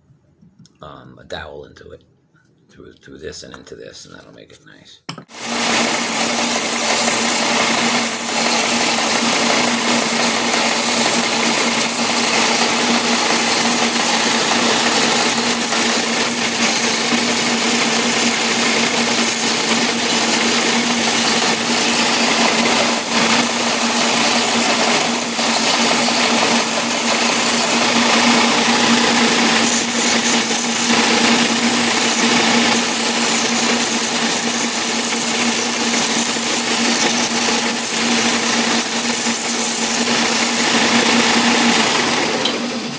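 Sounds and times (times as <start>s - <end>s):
belt sander running: 5.3s - 42.9s
wood being sanded: 5.4s - 42.0s.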